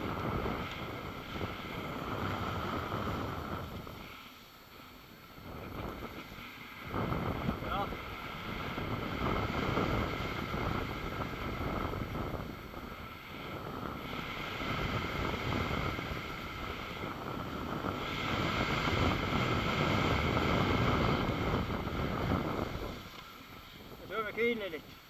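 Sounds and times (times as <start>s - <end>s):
wind rushing over microphone: 0.0s - 4.2s, 5.2s - 24.8s
skis sliding on snow: 0.0s - 4.3s, 6.0s - 24.9s.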